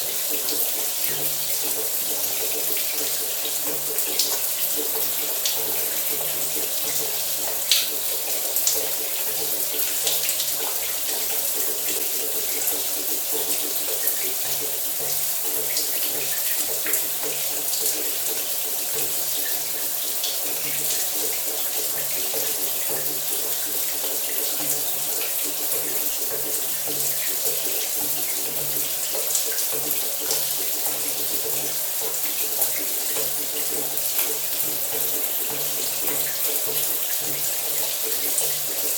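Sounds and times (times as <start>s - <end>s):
shower water running: 0.0s - 38.9s.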